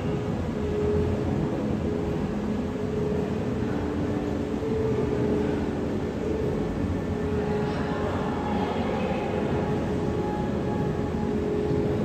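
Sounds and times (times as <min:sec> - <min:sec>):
faint hum: 0:00.0 - 0:12.0
low rumbling ambience: 0:00.0 - 0:12.0.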